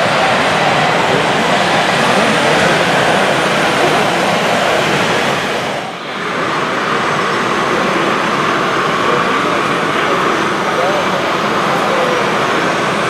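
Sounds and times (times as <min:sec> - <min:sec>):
model vehicles running: 0:00.0 - 0:13.0.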